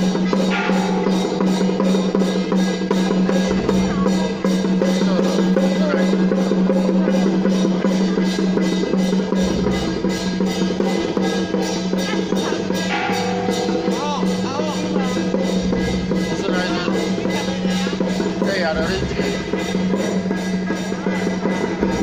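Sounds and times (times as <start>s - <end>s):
procession drums beating: 0.0s - 22.0s.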